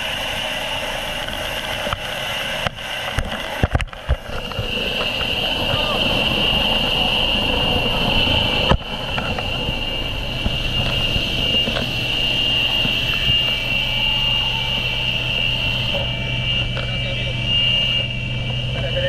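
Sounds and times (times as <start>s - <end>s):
helicopter rotor and engine rumble: 0.0s - 19.0s
high whine: 0.0s - 19.0s.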